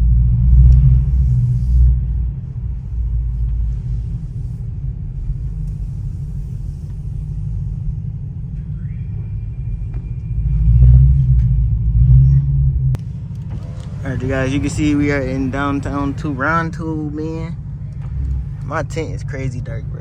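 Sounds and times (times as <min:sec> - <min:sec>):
deep car exhaust rumble: 0:00.0 - 0:20.0.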